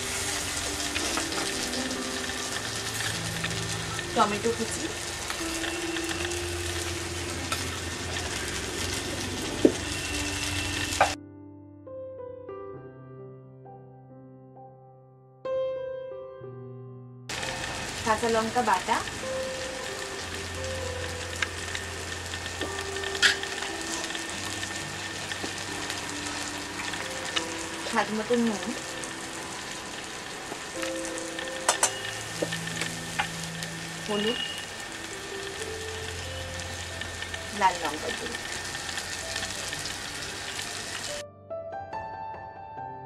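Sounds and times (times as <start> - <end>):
food sizzling in hot oil: 0.0 - 11.2, 17.3 - 41.2
sharp crackle: 0.0 - 11.2, 17.3 - 41.2.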